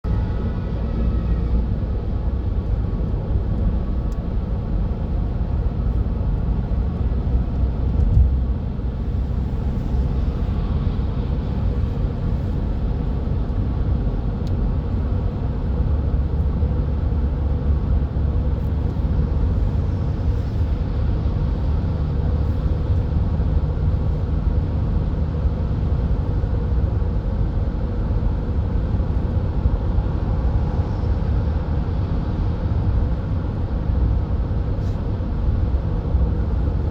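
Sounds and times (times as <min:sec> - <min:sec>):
motorway traffic rumble: 0:00.0 - 0:36.9.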